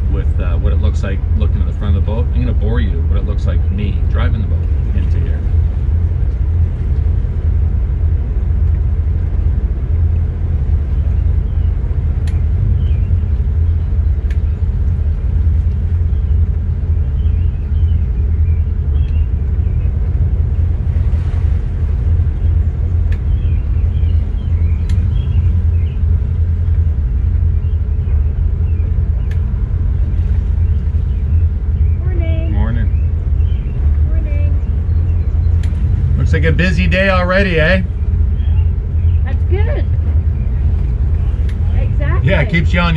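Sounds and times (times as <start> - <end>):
boat engine idling: 0.0 - 42.9.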